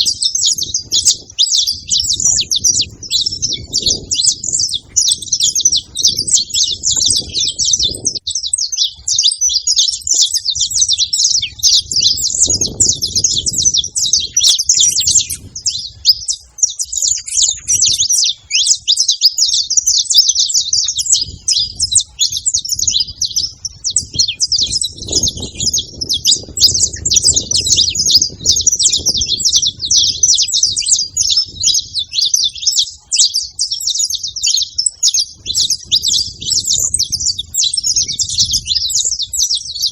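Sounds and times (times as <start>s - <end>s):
finches chirping chorus: 0.0s - 39.9s.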